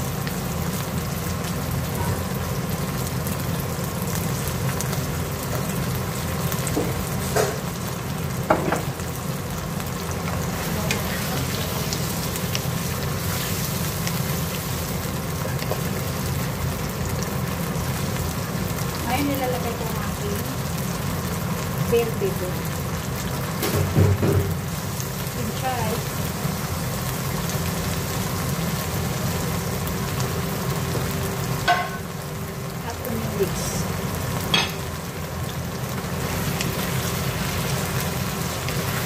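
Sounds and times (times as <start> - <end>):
vegetables sizzling in a wok: 0.0 - 39.0.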